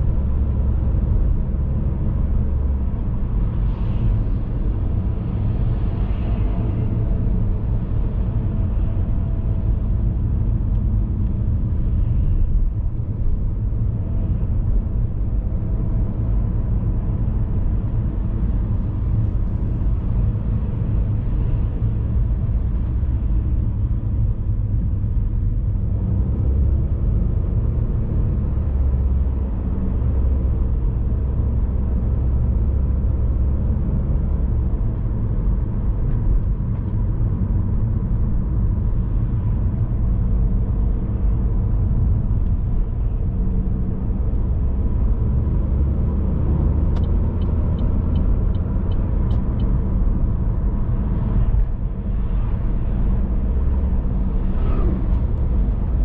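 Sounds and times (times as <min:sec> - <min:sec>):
car driving low rumble: 0:00.0 - 0:56.0.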